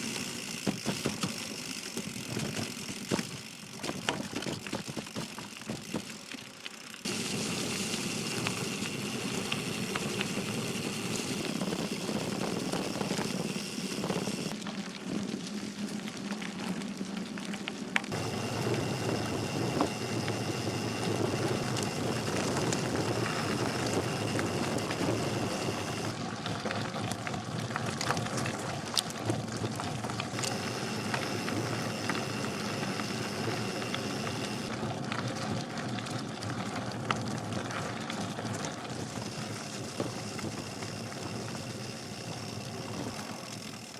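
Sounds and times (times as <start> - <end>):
bike tyres rolling on gravel: 0.0 - 43.9
stones and bike rattling: 0.0 - 43.9.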